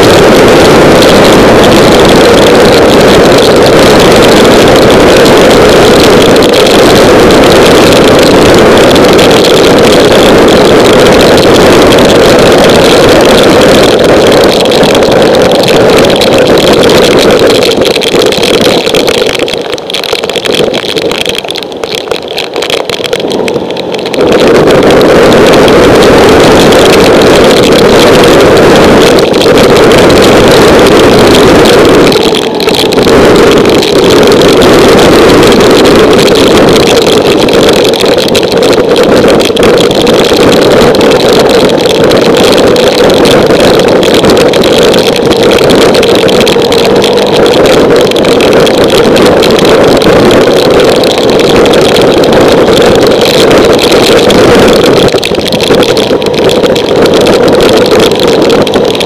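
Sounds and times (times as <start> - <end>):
wind and rain rushing: 0.0 - 59.0.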